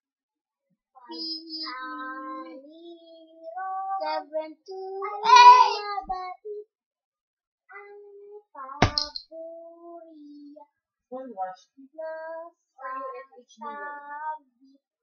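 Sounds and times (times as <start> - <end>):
child singing slow song: 1.0 - 6.6, 7.7 - 10.6, 11.2 - 14.8.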